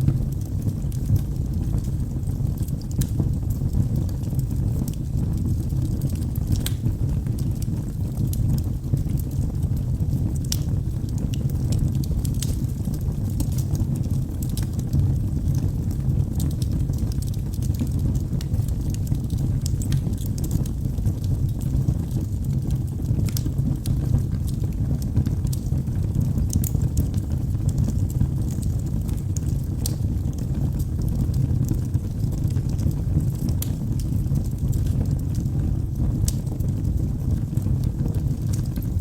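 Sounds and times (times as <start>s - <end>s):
fire crackles and pops: 0.0s - 39.0s
low rumble of flames: 0.0s - 39.0s.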